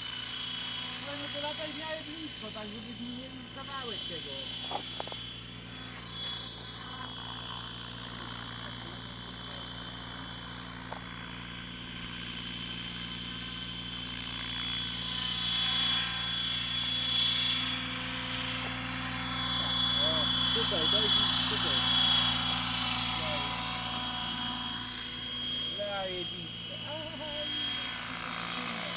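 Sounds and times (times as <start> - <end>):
model helicopter rotor whine: 0.0 - 28.9.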